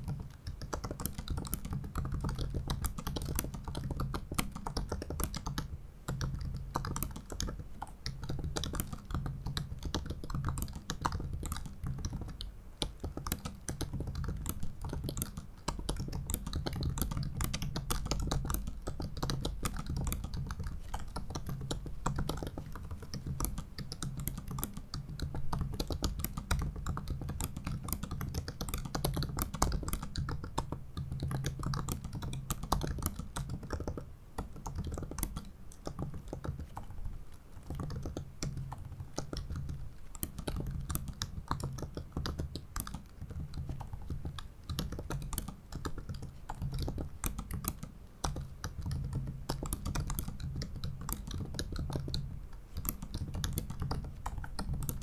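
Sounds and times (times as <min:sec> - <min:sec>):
laptop keyboard typing: 0:00.0 - 0:55.0.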